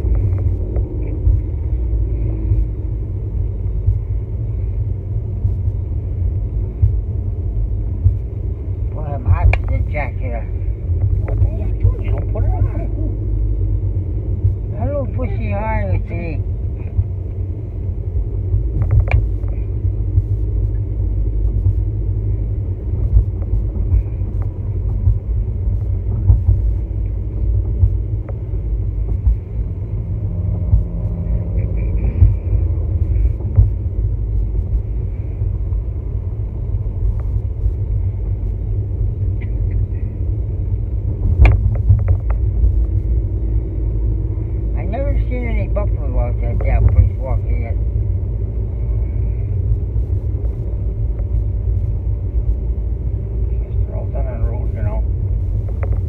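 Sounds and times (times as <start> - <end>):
vehicle cabin road rumble: 0.0 - 56.0.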